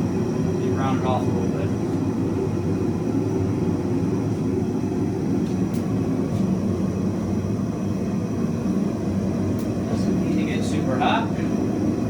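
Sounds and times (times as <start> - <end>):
gas forge burner rushing: 0.0 - 12.0.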